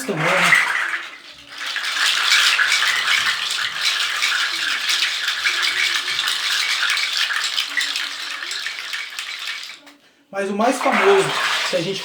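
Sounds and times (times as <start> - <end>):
shaker rattles clattering: 0.0 - 10.1, 10.8 - 12.0.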